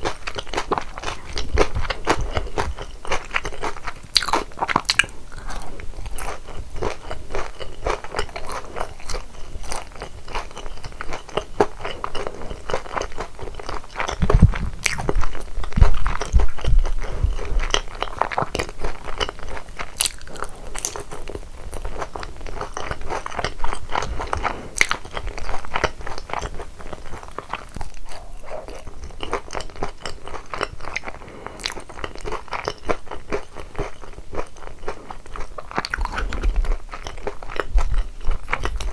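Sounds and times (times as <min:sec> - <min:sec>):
crunchy chewing of fried chicken: 0:00.0 - 0:38.9.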